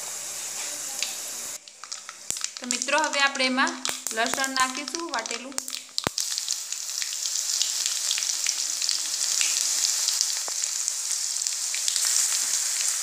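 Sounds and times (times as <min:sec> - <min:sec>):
garlic sizzling in hot oil: 0:00.0 - 0:13.0
small crackling pops: 0:00.6 - 0:12.9.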